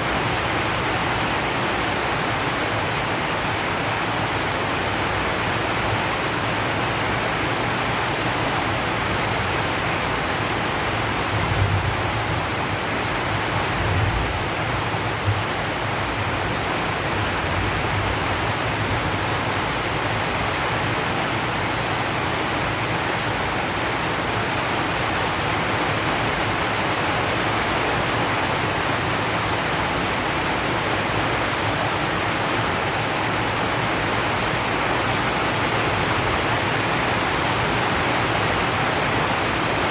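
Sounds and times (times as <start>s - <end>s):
rain drumming on a metal roof: 0.0s - 39.9s.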